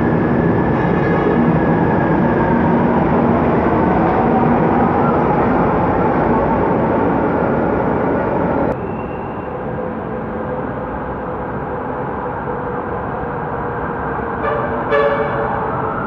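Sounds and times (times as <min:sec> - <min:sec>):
tram wheels and motors running: 0:00.0 - 0:16.0.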